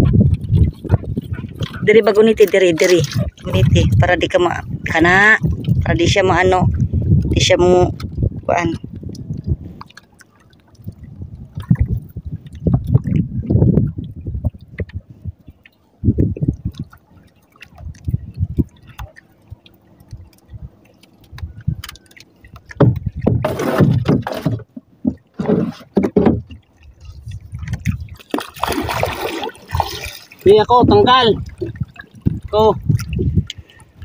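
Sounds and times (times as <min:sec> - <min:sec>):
water lapping against boat hull: 0:00.0 - 0:34.0.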